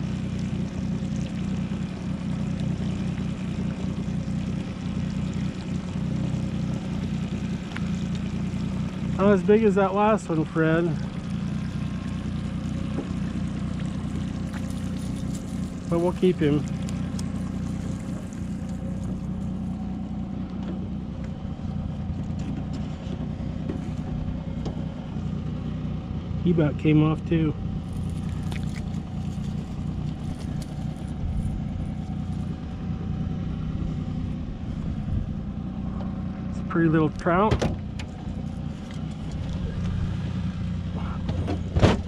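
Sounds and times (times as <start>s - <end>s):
outboard motor running: 0.0s - 42.0s.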